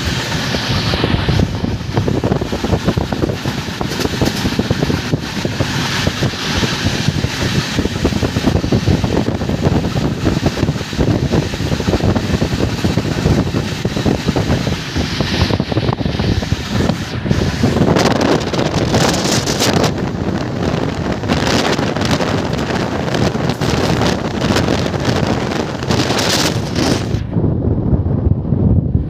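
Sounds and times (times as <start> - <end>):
moving train running noise: 0.0 - 29.0
wind buffeting microphone: 0.0 - 29.0.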